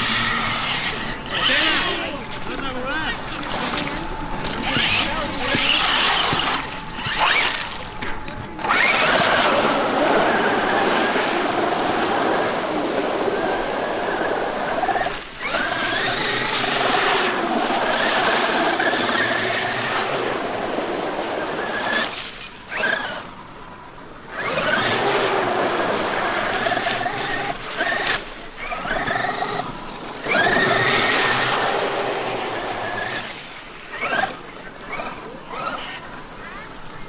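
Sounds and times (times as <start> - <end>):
electric toy truck motor whining: 0.0 - 37.0.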